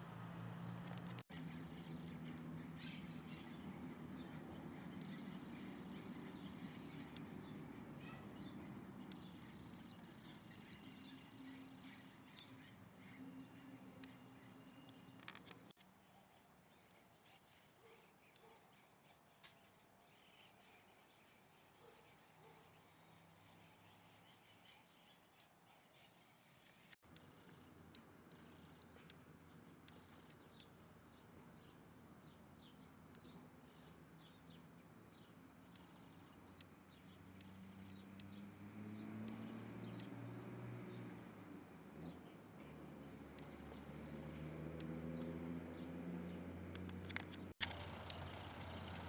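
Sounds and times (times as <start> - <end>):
faint bird chirps and calls: 0.0 - 41.0.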